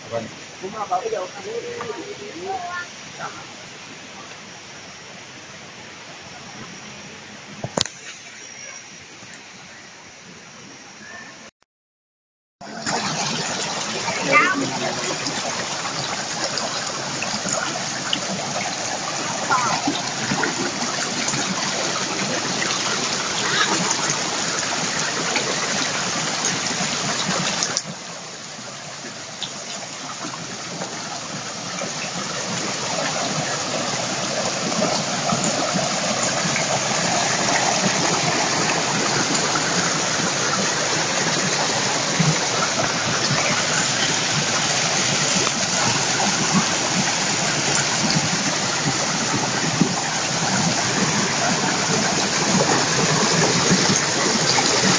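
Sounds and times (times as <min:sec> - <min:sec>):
stream rushing over rocks: 0:00.0 - 0:11.5, 0:12.6 - 0:54.9.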